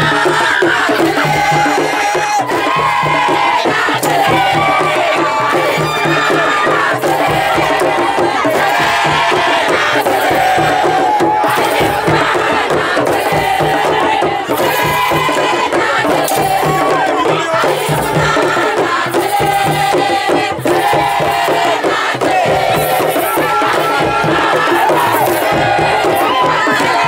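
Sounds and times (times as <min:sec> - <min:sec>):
crowd chanting and shouting: 0:00.0 - 0:27.0
music with a steady beat: 0:00.0 - 0:27.0.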